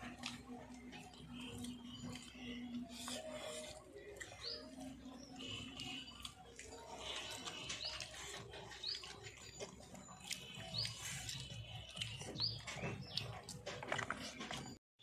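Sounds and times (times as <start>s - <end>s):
bird chirping: 0.0s - 14.8s.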